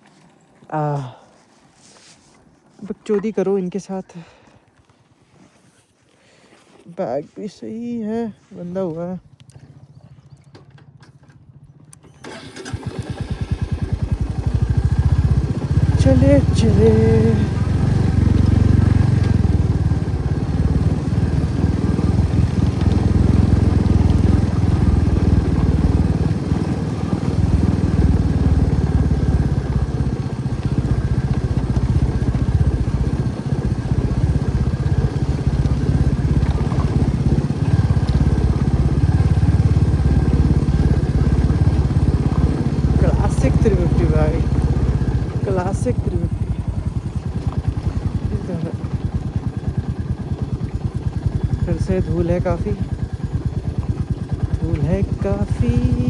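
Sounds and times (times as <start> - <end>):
motorcycle engine rumbling: 7.0 - 56.0.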